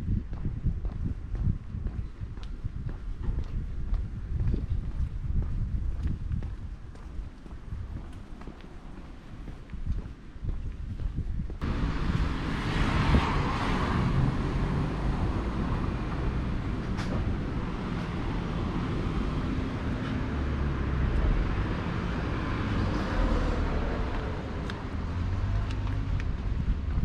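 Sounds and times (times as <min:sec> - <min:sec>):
passing cars and road noise: 0:00.0 - 0:27.0.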